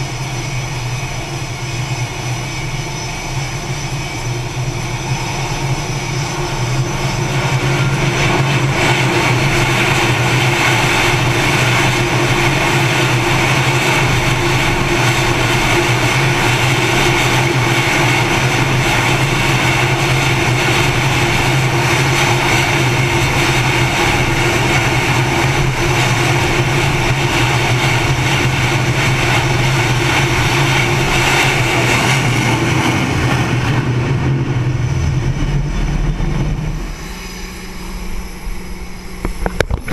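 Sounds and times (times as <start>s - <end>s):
jet engines roaring and whining: 0.0s - 39.9s.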